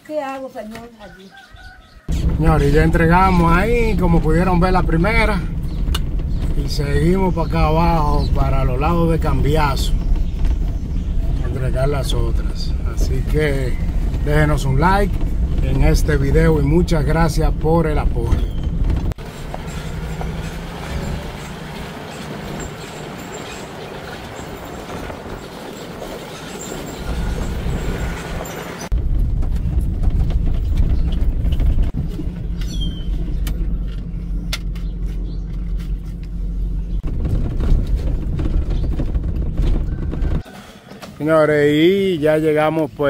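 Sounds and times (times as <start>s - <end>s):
vehicle engine and road rumble: 0.0s - 43.0s
creaking: 1.5s - 41.2s.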